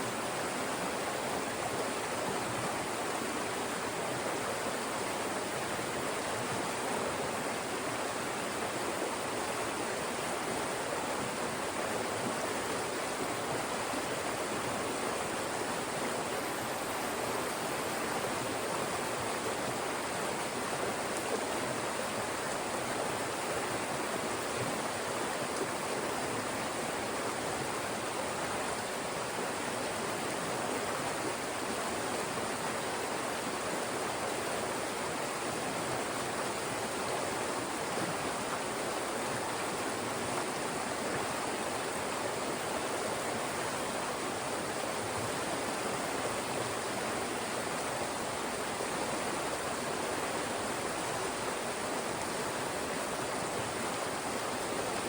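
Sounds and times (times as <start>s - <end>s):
stream rushing between rocks: 0.0s - 55.0s.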